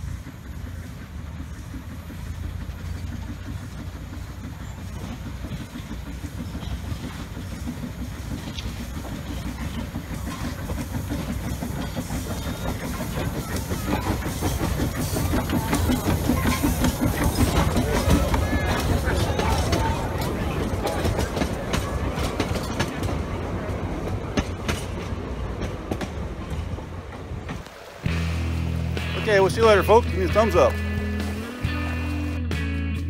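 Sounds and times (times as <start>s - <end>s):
steam train rumbling on track: 0.0s - 32.6s.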